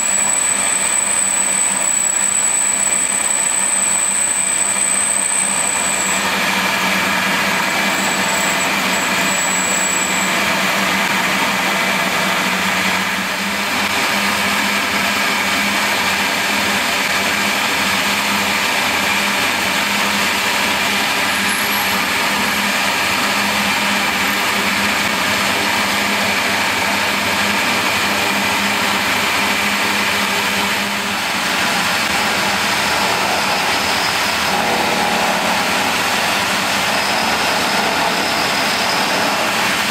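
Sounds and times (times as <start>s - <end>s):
milling machine drilling brass: 0.0s - 11.6s, 13.4s - 39.9s.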